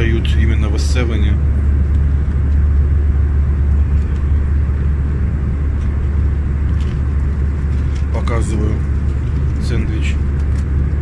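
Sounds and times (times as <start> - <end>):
airliner engine drone in cabin: 0.0 - 11.0.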